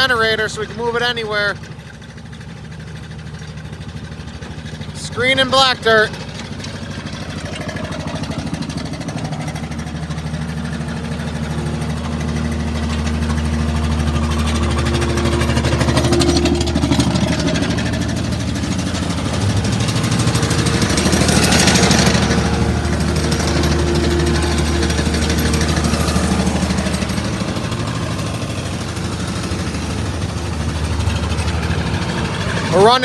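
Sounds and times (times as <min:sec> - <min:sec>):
diesel engines running: 0:00.0 - 0:33.0
vibrating screen rattling: 0:03.6 - 0:33.0.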